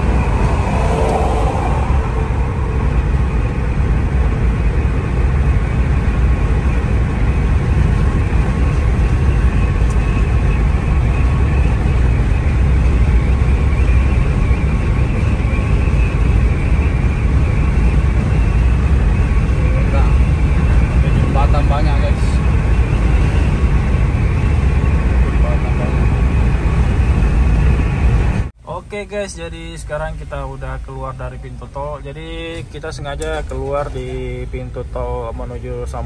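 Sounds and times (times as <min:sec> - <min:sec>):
car interior road rumble: 0:00.0 - 0:28.5, 0:29.1 - 0:36.0.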